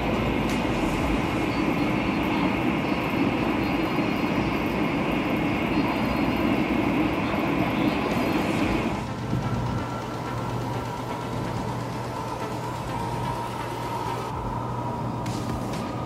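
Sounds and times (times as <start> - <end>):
train cabin rumble and hiss: 0.0 - 16.0.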